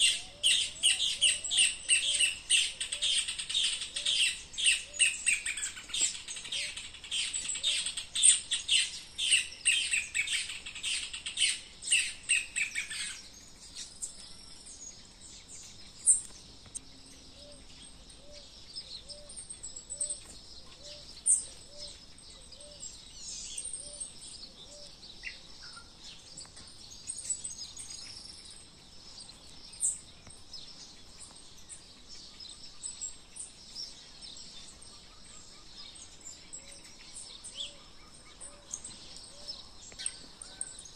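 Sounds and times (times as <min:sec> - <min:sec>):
birds chirping and chattering: 0:00.0 - 0:40.9.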